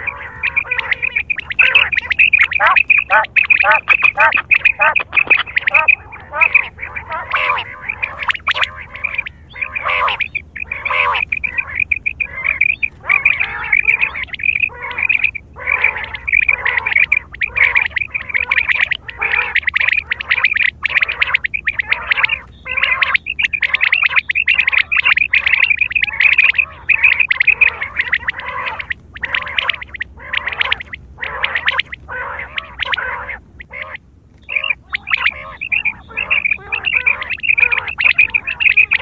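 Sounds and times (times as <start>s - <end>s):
quail calling: 0.0s - 39.0s.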